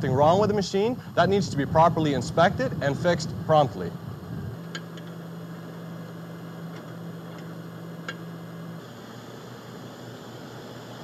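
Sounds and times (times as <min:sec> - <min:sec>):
farm machine humming through speakers: 0:00.0 - 0:11.0.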